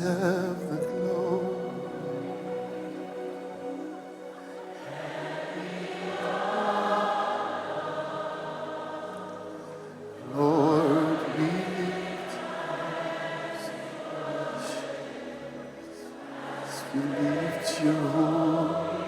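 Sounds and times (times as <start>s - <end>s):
choir singing worship music: 0.0s - 19.0s.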